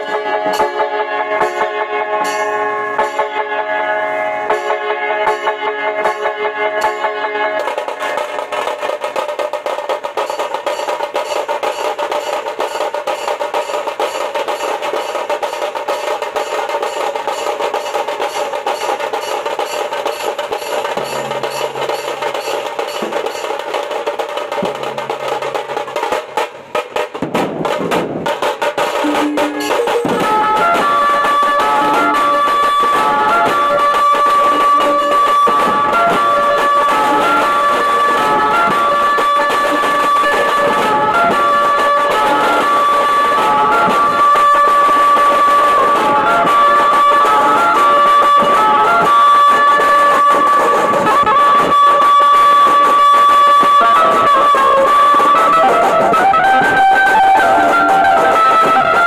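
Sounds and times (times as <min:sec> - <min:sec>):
drums playing fast rhythm: 0:00.0 - 0:03.4, 0:04.5 - 0:59.0
melody over drums: 0:00.0 - 0:03.5, 0:04.5 - 0:59.0.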